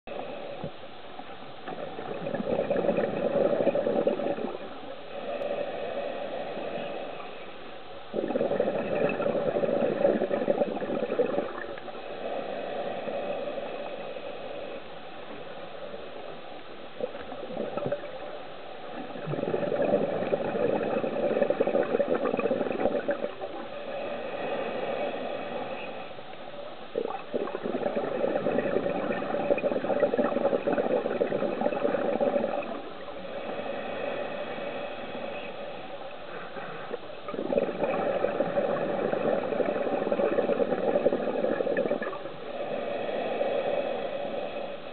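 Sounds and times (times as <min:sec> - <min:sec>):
soft bubbling hiss: 0:00.0 - 0:44.9
scuba regulator exhaust bubbling: 0:01.6 - 0:07.4, 0:08.1 - 0:14.0, 0:16.9 - 0:44.6.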